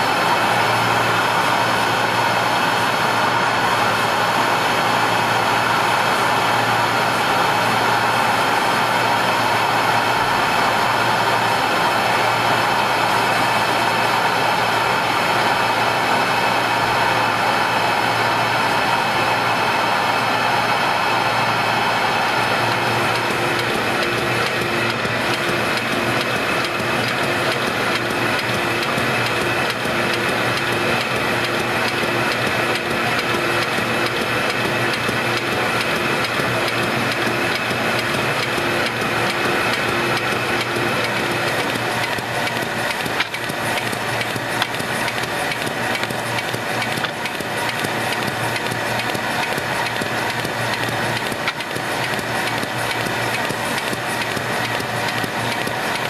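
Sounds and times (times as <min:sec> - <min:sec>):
paper folding machine running: 0:00.0 - 0:56.0.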